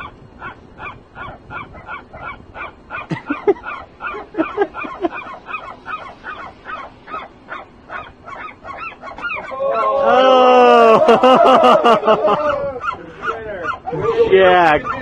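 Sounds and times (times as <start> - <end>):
gull giving harsh calls: 0.0 - 11.6, 12.3 - 15.0.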